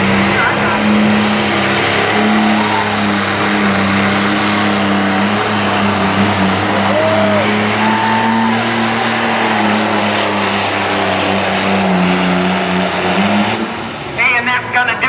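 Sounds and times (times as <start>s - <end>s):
tractor engine high-revving drone: 0.0s - 15.0s.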